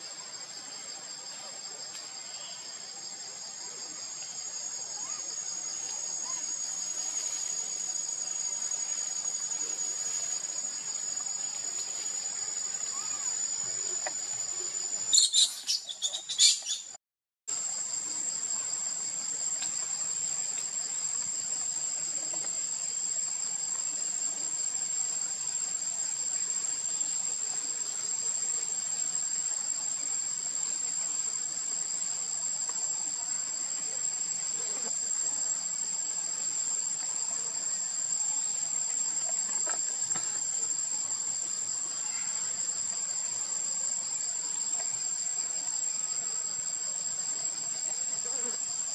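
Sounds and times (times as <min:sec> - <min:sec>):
insect chorus trilling: 0:00.0 - 0:48.9.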